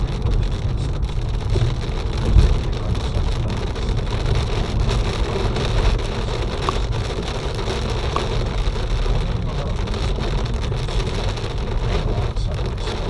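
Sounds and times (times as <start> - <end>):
hail pelting surfaces: 0.0 - 13.0
low rumble: 0.0 - 13.0.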